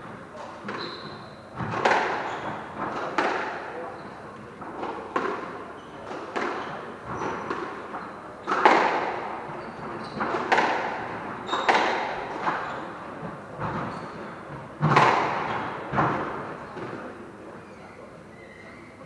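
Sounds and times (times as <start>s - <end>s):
shoes squeaking on wooden floor: 0.0s - 3.0s, 5.7s - 16.9s, 17.6s - 19.0s
squash ball hitting rackets and walls: 0.0s - 17.1s.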